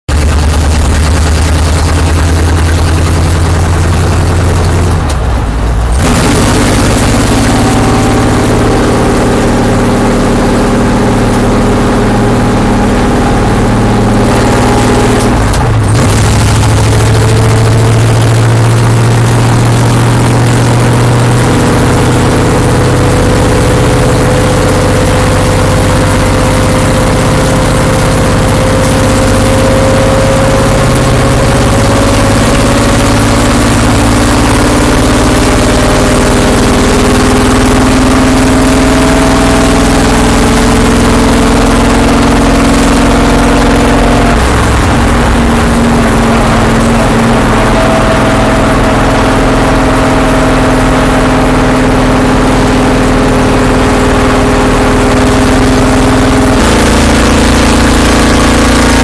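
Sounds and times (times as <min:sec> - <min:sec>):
race car engine running hard: 0:00.1 - 0:59.0.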